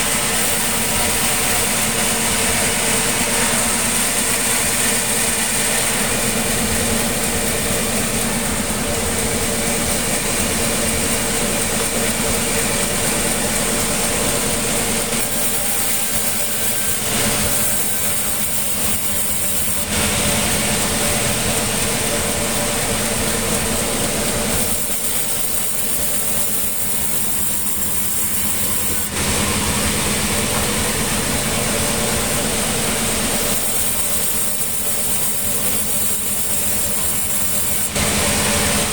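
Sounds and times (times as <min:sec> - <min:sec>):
harsh noisy machine layer: 0:00.0 - 0:38.9
sawmill machinery hum: 0:00.0 - 0:38.9.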